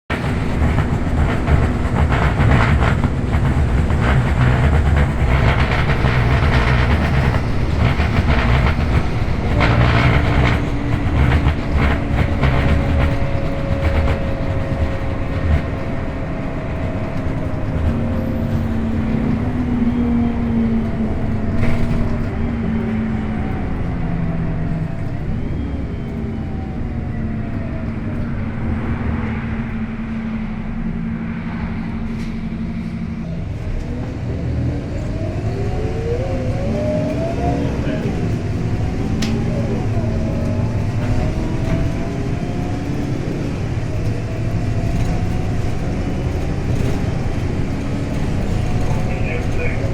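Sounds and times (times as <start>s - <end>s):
bus engine rumbling: 0.0s - 49.9s
drivetrain whine: 0.0s - 49.9s.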